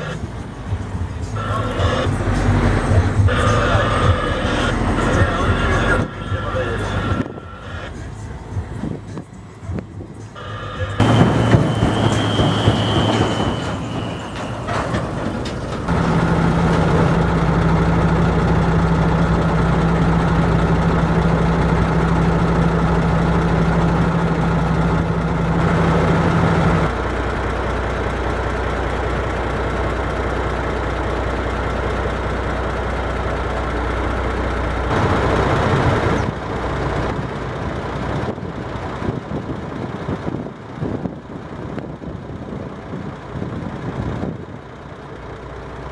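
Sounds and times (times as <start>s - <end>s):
harvest machinery engine drone: 0.0s - 45.9s.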